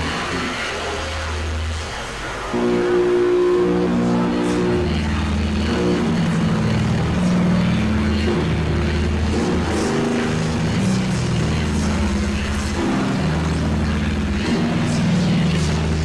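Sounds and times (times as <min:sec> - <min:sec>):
heavily distorted guitar notes: 0:00.0 - 0:16.0
hissing wall of noise: 0:00.0 - 0:16.0.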